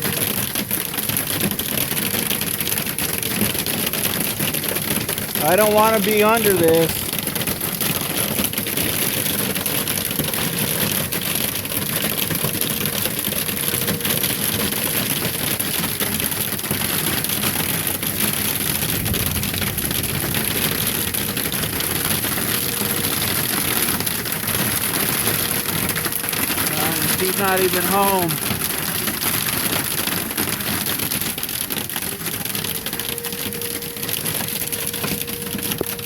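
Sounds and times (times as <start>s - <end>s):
hail and heavy rain pelting: 0.0s - 36.0s.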